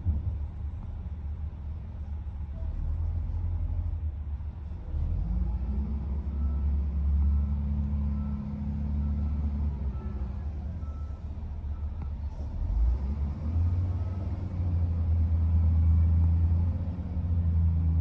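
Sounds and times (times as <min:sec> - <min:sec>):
diesel engine rumbling and revving: 0:00.0 - 0:18.0.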